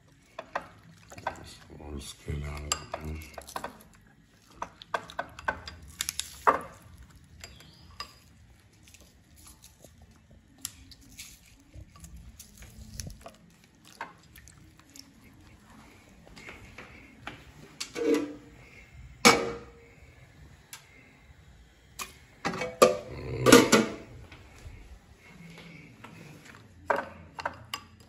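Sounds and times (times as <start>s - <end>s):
kitchen items clinking: 0.0s - 19.8s, 22.0s - 28.0s.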